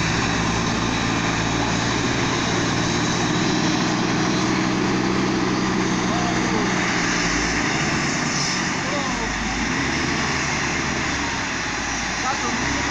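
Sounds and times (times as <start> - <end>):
diesel engines droning: 0.0 - 12.9.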